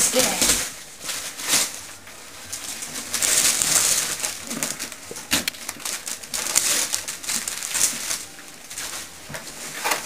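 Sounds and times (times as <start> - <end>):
sharp paper crackles: 0.0 - 10.0
wrapping paper rustling: 0.0 - 10.0.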